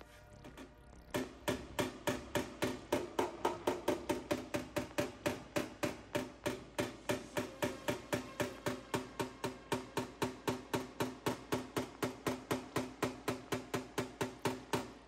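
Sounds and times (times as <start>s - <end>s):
hammer tapping on car metal: 1.1s - 15.0s.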